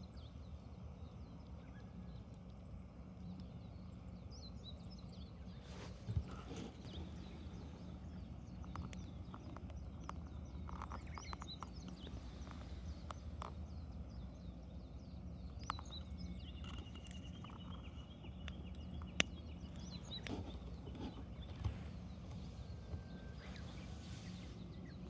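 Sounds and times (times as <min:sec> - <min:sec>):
low rumble of burning: 0:00.0 - 0:25.0.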